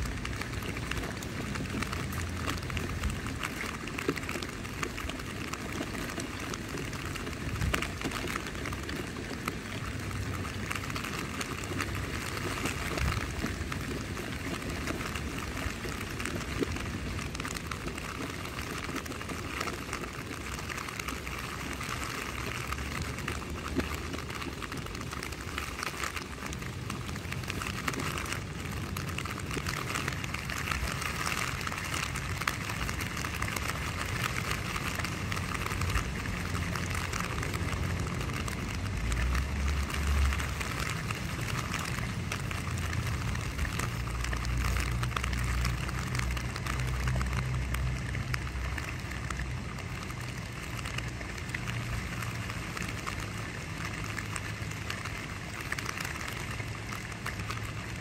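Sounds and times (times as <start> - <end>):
rain on tent fabric: 0.0 - 58.0.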